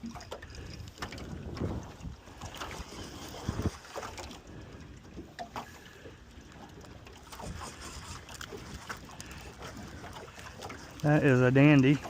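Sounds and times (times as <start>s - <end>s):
water wash: 0.0s - 6.0s, 6.7s - 12.0s
wind: 0.0s - 12.0s.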